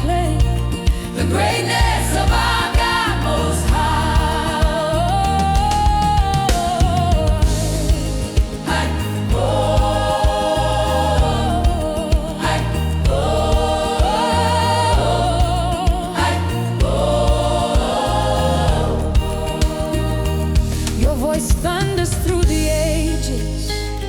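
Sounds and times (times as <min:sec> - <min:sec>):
bass and drum beat: 0:00.0 - 0:24.0
choir singing held notes: 0:00.9 - 0:21.1.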